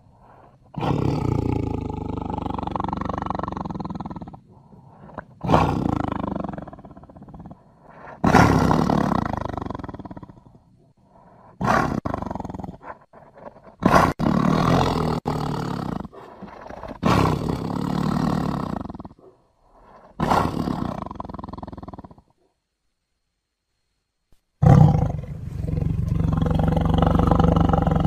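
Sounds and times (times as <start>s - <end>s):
tiger roaring: 0.2s - 10.6s, 11.6s - 22.2s, 24.6s - 28.0s.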